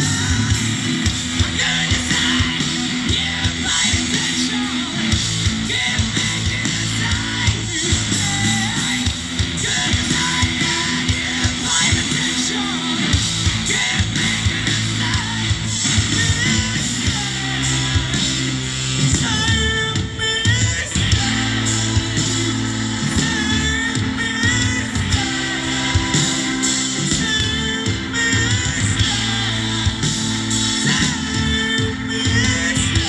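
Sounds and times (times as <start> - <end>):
live rock band playing: 0.0 - 33.0
person singing: 0.0 - 33.0.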